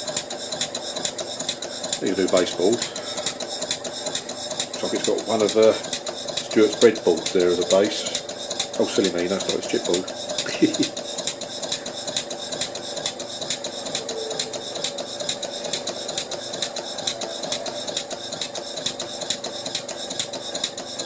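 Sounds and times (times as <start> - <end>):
model steam engine exhaust beating: 0.0 - 21.0
steady hum: 0.0 - 21.0.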